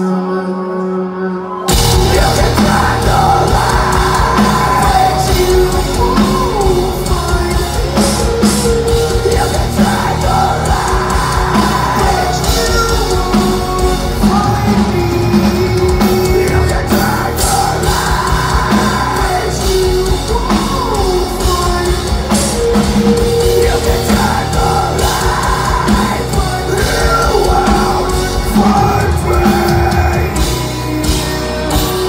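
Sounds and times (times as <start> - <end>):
electric guitars: 0.0 - 32.0
singer holding long notes: 0.0 - 32.0
bass guitar: 1.4 - 32.0
drums: 1.4 - 32.0.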